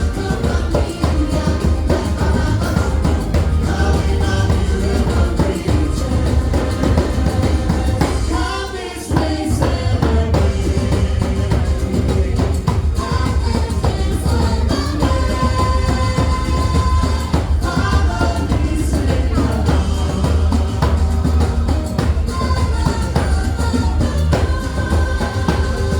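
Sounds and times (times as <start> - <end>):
music with singing and heavy bass: 0.0 - 25.9.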